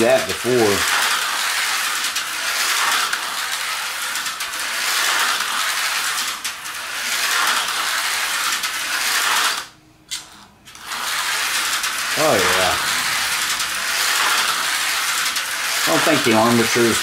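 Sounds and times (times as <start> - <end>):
slot car motor whirring: 0.0 - 17.0.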